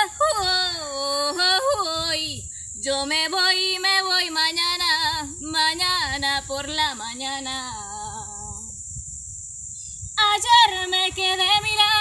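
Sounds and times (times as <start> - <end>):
woman singing unaccompanied: 0.0 - 8.8, 10.2 - 12.0.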